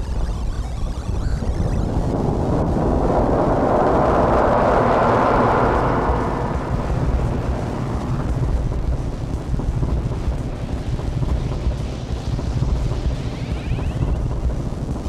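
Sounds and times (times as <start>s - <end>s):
rumbling echo effects: 0.0s - 15.0s.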